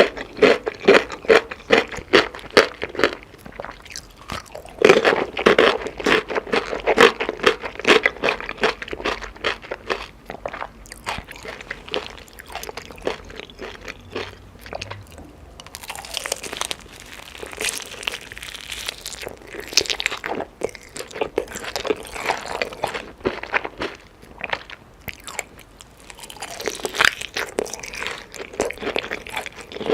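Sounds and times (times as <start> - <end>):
person chewing crunchy chicken: 0.0 - 29.9.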